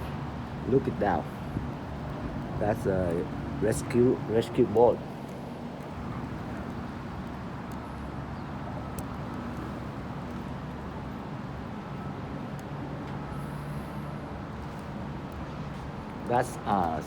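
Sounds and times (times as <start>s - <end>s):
harbour rumble and hum: 0.0s - 17.0s.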